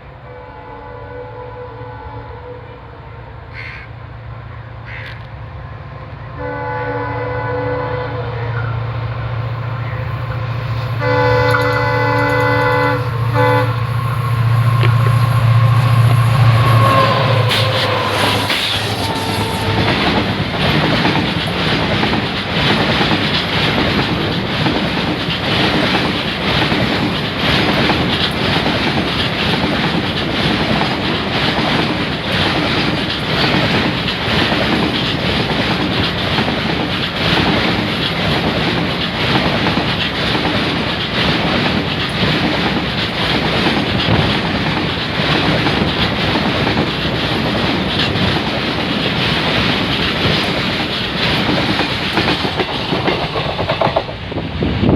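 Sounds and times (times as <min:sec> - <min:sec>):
freight train rolling past: 0:00.0 - 0:54.9
steel wheels clacking over rail joints: 0:09.7 - 0:54.4.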